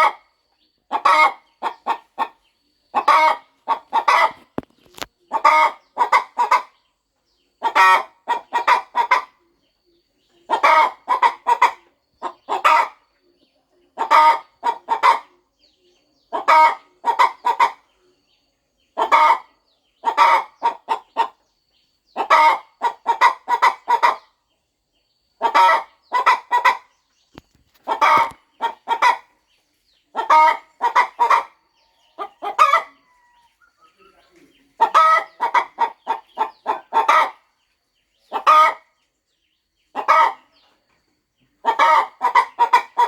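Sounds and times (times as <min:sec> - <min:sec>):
hen clucking: 0:00.0 - 0:24.6, 0:25.3 - 0:43.0.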